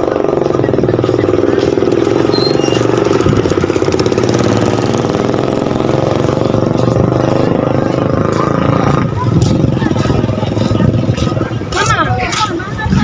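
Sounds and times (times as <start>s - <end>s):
steady engine drone: 0.0s - 11.8s
motor scooter passing: 0.0s - 13.0s.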